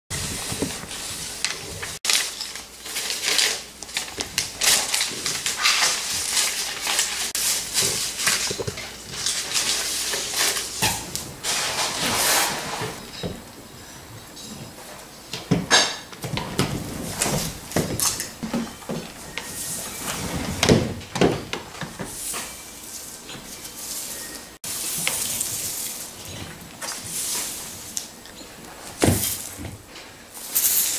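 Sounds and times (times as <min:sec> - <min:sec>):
broom sweeping hardwood floor: 0:00.1 - 0:15.6, 0:16.2 - 0:30.9.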